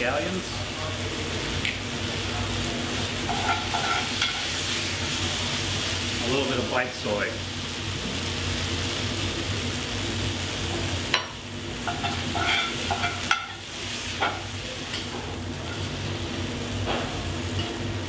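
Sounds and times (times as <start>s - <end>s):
grains sizzling in a skillet: 0.0s - 18.0s.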